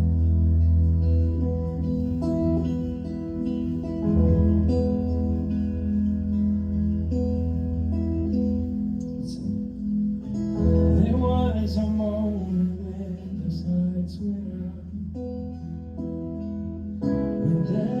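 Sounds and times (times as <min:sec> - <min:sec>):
sustained low bass: 0:00.0 - 0:15.3
acoustic guitar chords: 0:00.0 - 0:18.0.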